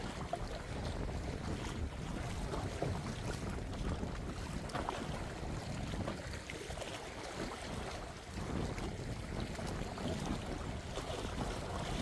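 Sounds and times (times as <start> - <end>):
sea waves splashing: 0.0 - 12.0
wind buffeting microphone: 0.0 - 12.0.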